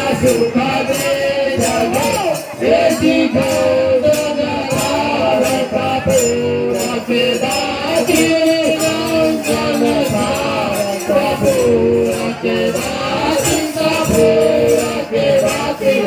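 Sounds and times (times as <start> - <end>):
jingling percussion beat: 0.0 - 16.0
person singing: 0.0 - 16.0.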